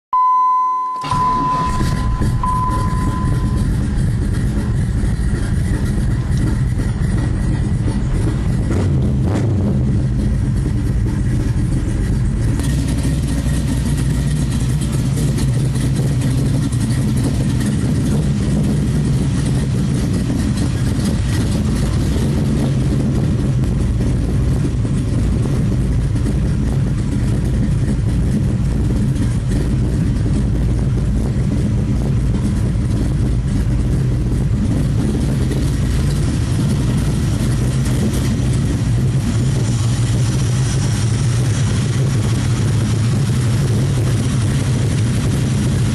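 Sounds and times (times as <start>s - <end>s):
car engine idling: 0.2s - 45.9s.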